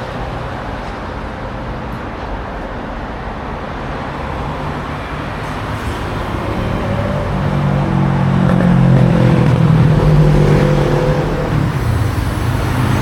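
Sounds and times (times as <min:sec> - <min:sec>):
road vehicle engine and tyre rumble: 0:00.0 - 0:13.0.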